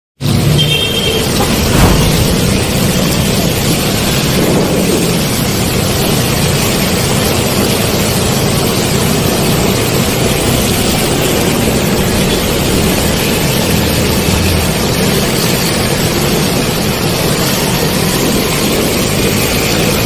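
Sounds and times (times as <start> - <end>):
motorcycle and traffic engines: 0.2 - 20.0
water splashing under wheels: 0.2 - 20.0.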